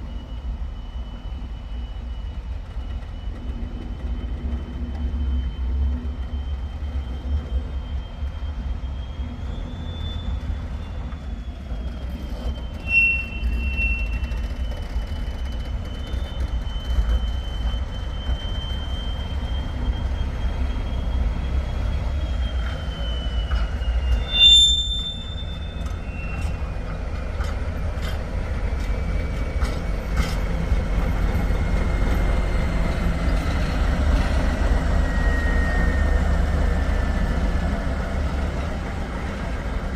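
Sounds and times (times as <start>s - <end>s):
high-pitched wheel squeal: 0.0s - 39.9s
train rumbling on rails: 0.0s - 39.9s.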